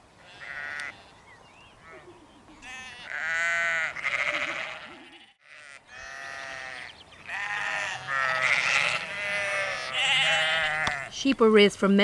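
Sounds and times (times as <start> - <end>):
sheep bleating: 0.2 - 1.1, 1.9 - 11.1.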